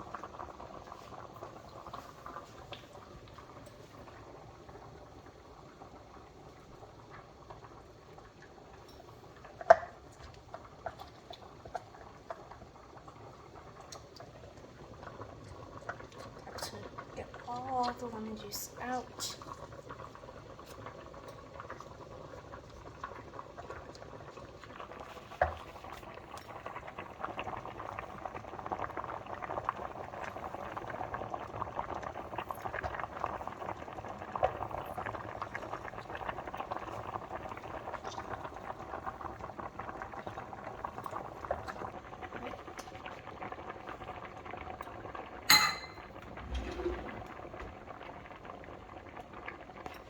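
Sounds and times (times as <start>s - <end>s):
water boiling in a pot: 0.0s - 50.0s.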